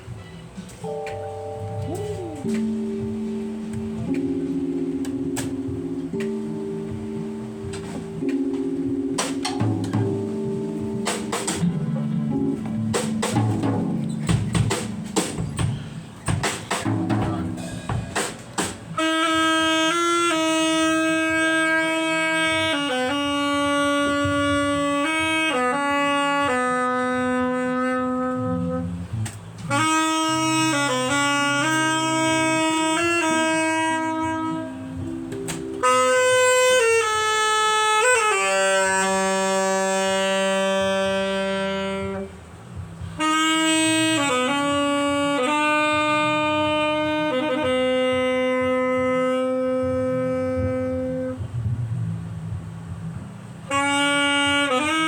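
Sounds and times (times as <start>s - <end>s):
faint low accompaniment: 0.0s - 55.0s
slow instrumental melody: 0.0s - 55.0s.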